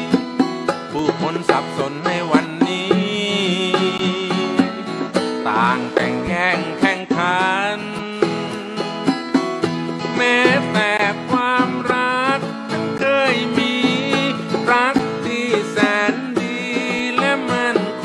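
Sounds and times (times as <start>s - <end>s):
country folk band music: 0.0s - 18.0s.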